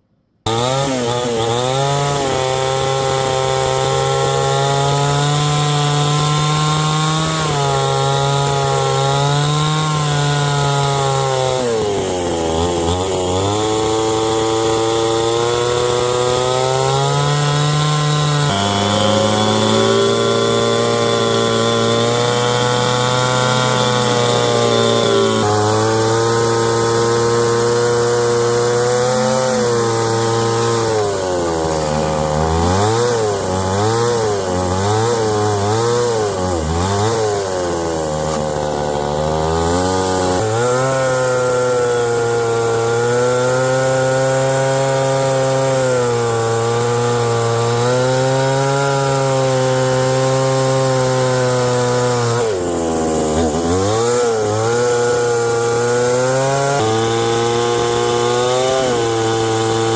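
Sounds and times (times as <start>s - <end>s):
small engine running hard: 0.4s - 59.9s.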